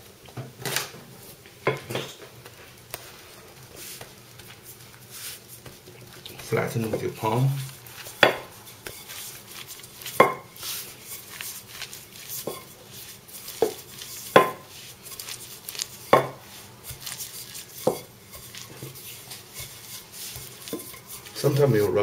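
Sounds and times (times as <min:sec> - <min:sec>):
rolling pin rubbing dough: 0:02.9 - 0:22.0.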